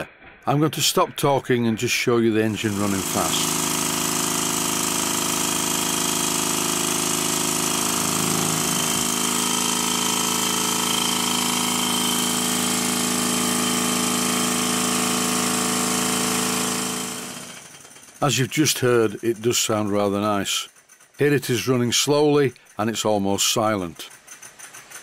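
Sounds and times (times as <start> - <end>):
model steam engine running fast: 0.6 - 25.0.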